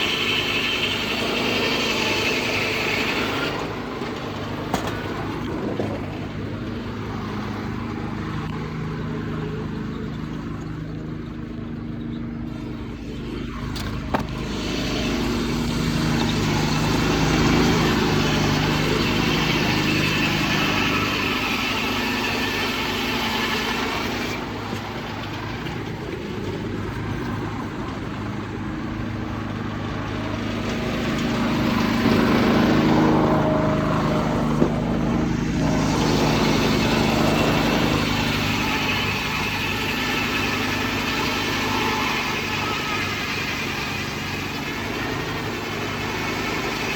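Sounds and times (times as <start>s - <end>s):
hissing saw cutting: 0.0s - 10.6s, 12.4s - 46.9s
muffled diesel engine running: 0.0s - 46.9s.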